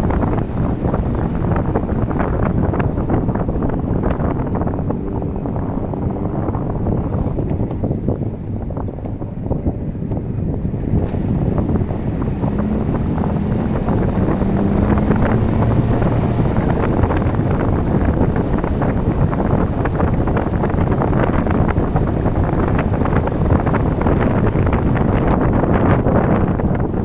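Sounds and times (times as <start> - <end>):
car engine and tyre noise: 0.0 - 27.0
wind buffeting microphone: 0.0 - 27.0.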